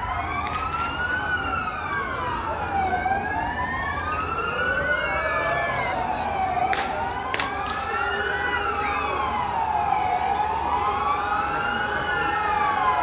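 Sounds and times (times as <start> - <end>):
air-raid sirens wailing: 0.0 - 13.0
low crowd hum: 0.0 - 13.0.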